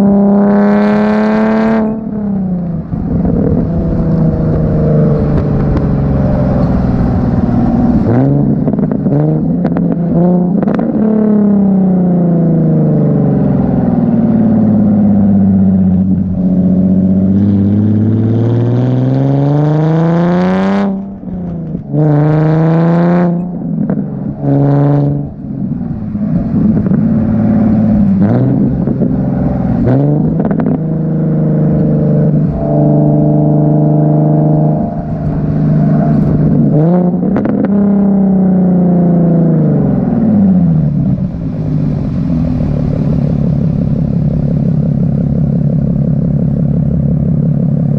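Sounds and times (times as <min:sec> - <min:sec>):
car engine revving with upshifts: 0:00.0 - 0:47.9.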